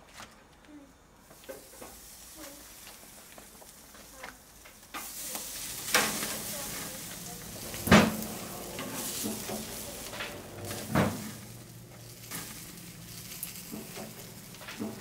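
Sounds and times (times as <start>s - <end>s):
meat sizzling on grill: 1.3s - 15.0s.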